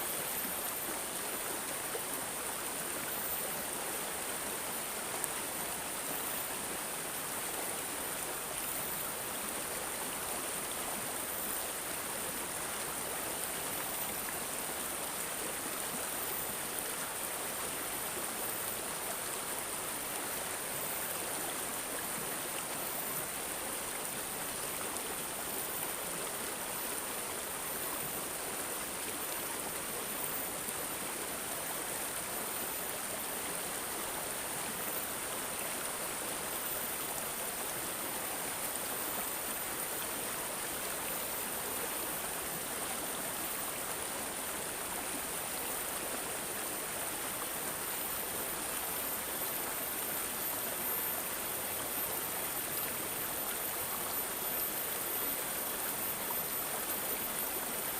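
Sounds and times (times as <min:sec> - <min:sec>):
water gurgling and babbling: 0:00.0 - 0:57.9.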